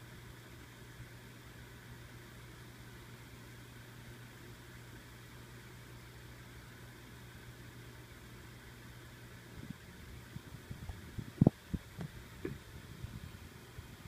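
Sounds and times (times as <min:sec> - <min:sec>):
low hum with hiss: 0:00.0 - 0:14.0.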